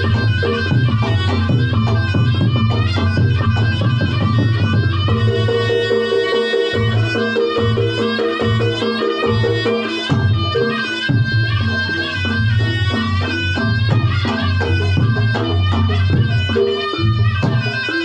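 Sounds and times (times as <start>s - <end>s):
hand drumming: 0.0s - 18.0s
reedy shawm melody: 0.0s - 18.0s.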